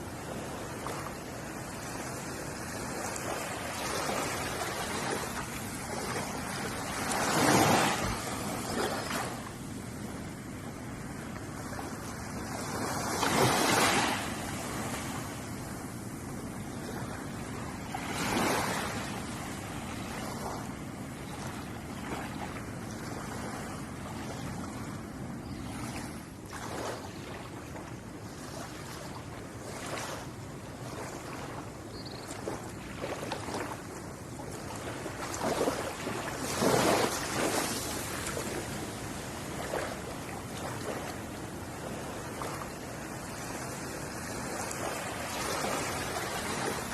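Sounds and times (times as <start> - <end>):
ocean surf washing on shore: 0.0 - 31.7, 32.4 - 46.9.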